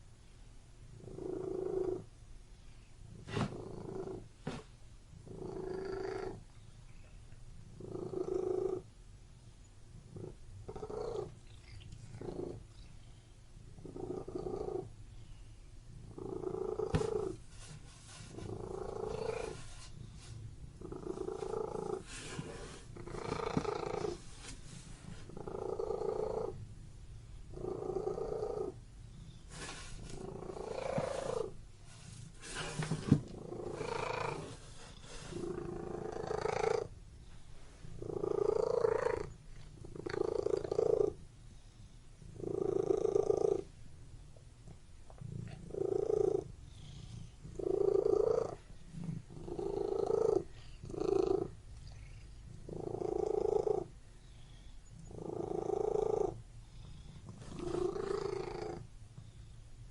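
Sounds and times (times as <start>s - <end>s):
cat purring: 0.9s - 4.3s, 5.2s - 8.9s, 9.9s - 37.0s, 37.8s - 44.4s, 45.1s - 59.9s.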